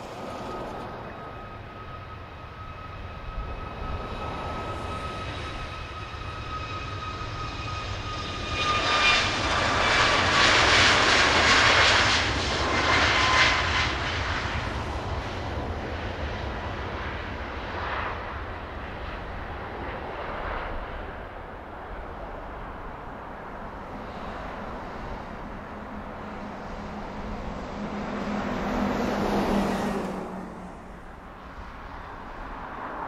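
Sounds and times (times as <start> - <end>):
aircraft engine whine: 0.0 - 33.0.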